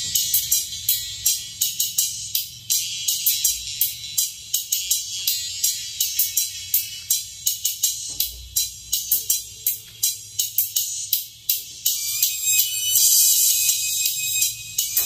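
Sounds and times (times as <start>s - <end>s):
hi-hat and cymbal ticks: 0.0s - 15.0s.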